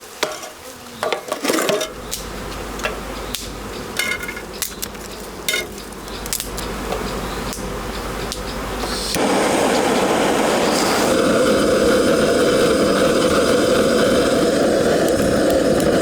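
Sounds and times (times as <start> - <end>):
fire crackling and popping: 1.8 - 16.0
bees buzzing: 1.9 - 16.0.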